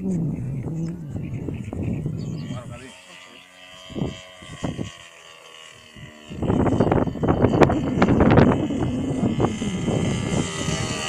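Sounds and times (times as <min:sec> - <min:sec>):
wind buffeting microphone: 0:00.0 - 0:02.8, 0:03.7 - 0:05.1, 0:05.7 - 0:11.0
model airplane engine droning: 0:00.0 - 0:11.0.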